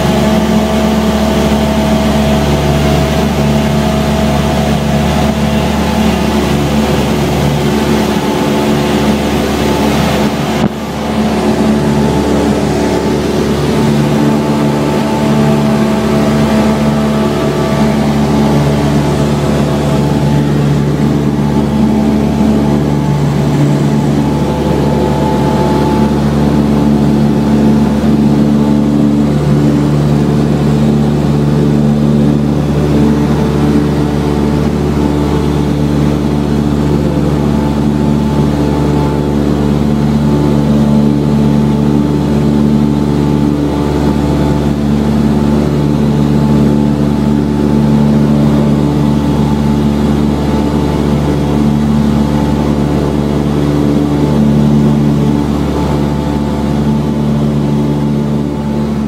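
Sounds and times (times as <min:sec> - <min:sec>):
airplane engine droning: 0:00.0 - 0:59.0.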